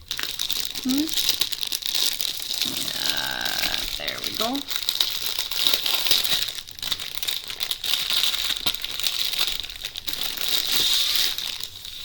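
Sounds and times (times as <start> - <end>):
paper crinkling: 0.0 - 12.0.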